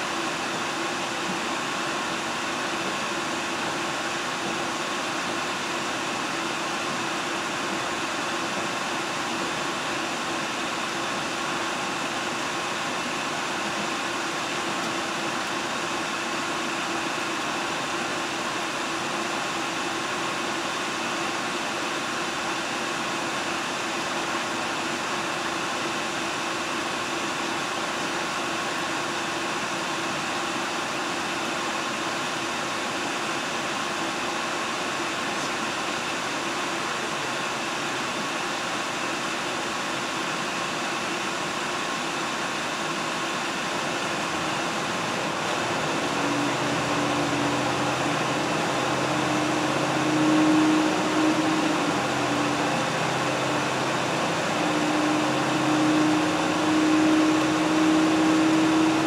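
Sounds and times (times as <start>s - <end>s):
diesel train running noise: 0.0s - 59.0s.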